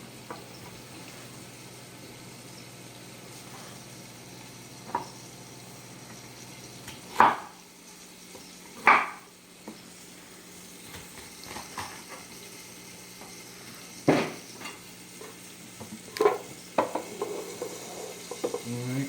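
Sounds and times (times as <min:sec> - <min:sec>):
chicken frying in oil: 0:00.0 - 0:19.0.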